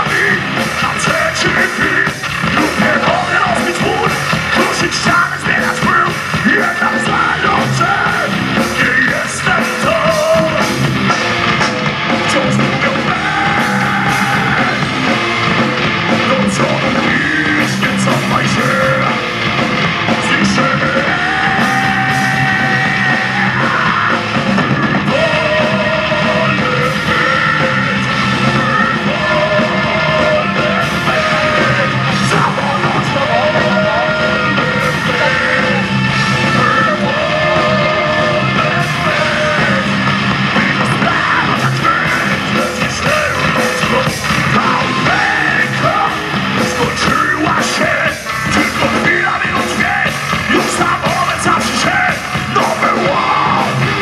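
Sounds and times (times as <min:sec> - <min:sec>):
distorted electric guitars: 0:00.0 - 0:54.0
drums: 0:00.0 - 0:54.0.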